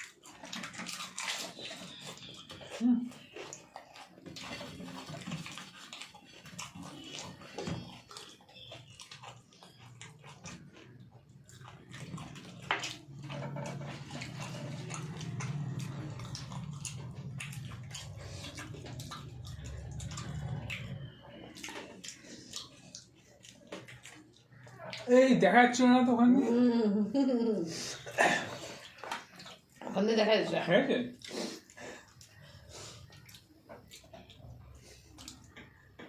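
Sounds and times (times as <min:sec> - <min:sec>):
chewing with wet mouth clicks: 0:00.0 - 0:25.1, 0:28.0 - 0:30.0, 0:31.1 - 0:36.0.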